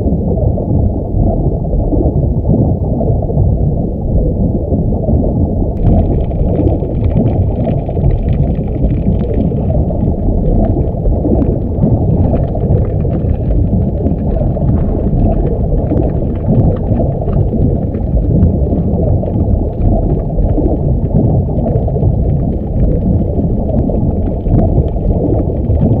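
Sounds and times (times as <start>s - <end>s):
muffled underwater water rush: 0.0s - 26.0s.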